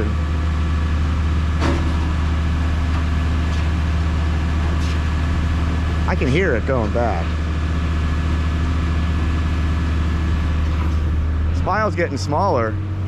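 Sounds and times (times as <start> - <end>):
heavy machinery idling: 0.0 - 13.0.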